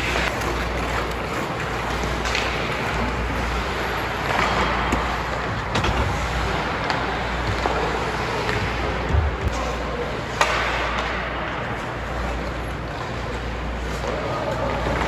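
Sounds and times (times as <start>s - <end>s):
rink crowd roar: 0.0s - 15.0s
skates scraping on ice: 0.0s - 15.0s
stick and puck clacks: 0.0s - 15.0s.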